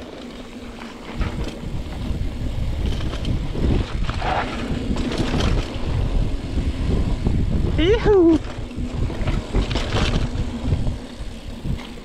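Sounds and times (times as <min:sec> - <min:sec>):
bike clicks and rattles: 0:00.0 - 0:12.0
bike tyres rumbling over dirt: 0:00.0 - 0:12.0
wind buffeting microphone: 0:01.0 - 0:12.0.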